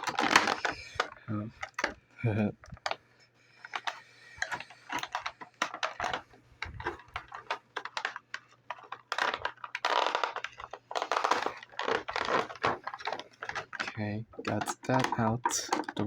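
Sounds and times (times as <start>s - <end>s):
plastic packaging crackling and clicking: 0.0s - 3.0s, 3.6s - 16.0s.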